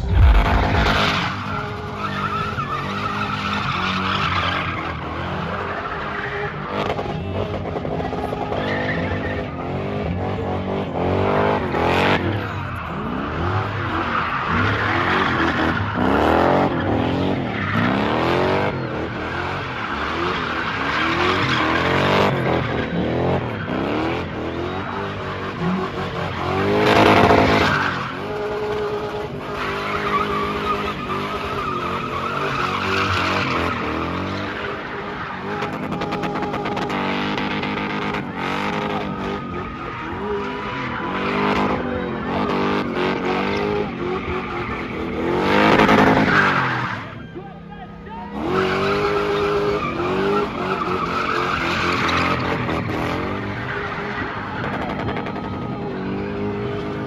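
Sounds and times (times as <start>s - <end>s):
tyre squeal: 0.0s - 7.0s, 12.5s - 47.4s, 48.4s - 57.0s
car engine revving: 0.0s - 47.0s.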